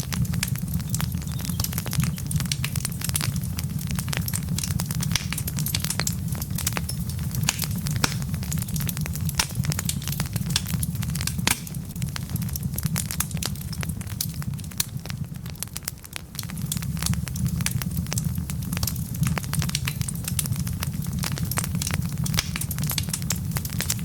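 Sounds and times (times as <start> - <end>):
fire crackling and popping: 0.0 - 24.0
low rumble of fire: 0.0 - 24.0.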